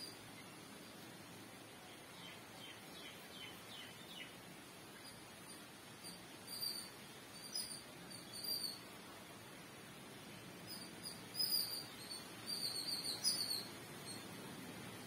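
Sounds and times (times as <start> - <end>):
faint steady background hiss: 0.0 - 15.0
small birds chirping: 0.0 - 15.0.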